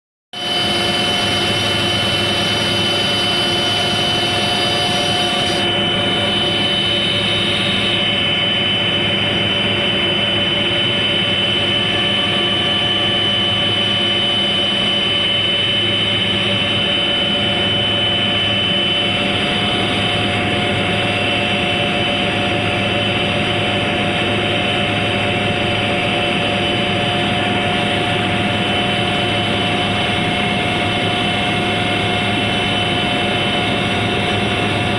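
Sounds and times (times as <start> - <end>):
aircraft engine drone: 0.4 - 34.9.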